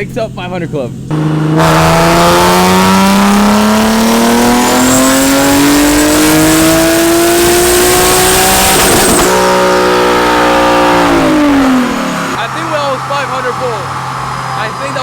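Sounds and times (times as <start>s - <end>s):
car engine revving at full throttle: 1.1s - 15.0s.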